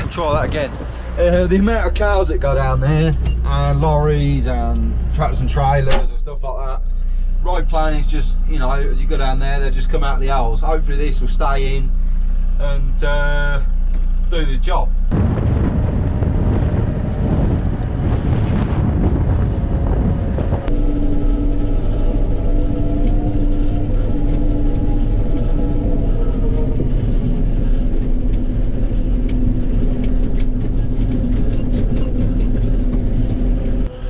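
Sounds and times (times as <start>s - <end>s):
diesel engine running: 0.0s - 34.0s
heavy machinery rumbling: 0.0s - 34.0s.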